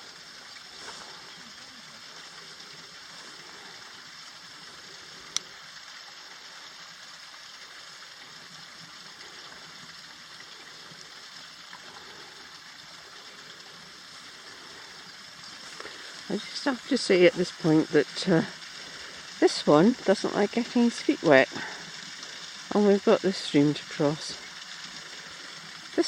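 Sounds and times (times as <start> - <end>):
stream running over stones: 0.0 - 26.0.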